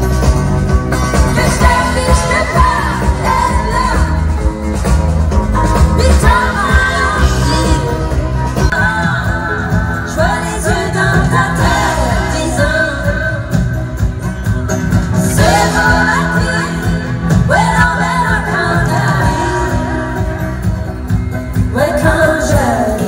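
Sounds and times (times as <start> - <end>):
steady bass notes: 0.0 - 23.0.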